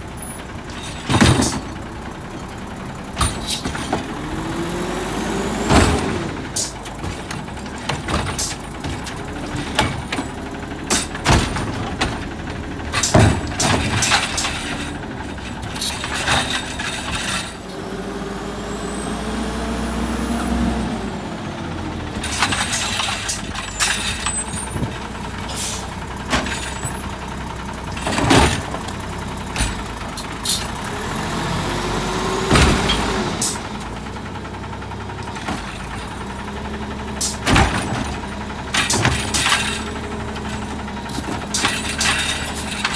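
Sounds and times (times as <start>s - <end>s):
bins banging and clanking: 0.0s - 42.9s
truck engine drone: 0.0s - 42.9s.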